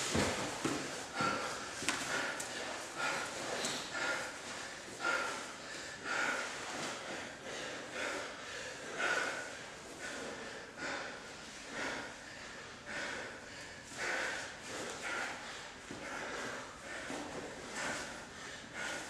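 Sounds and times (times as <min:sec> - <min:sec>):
hard rhythmic breathing: 0:00.0 - 0:19.0.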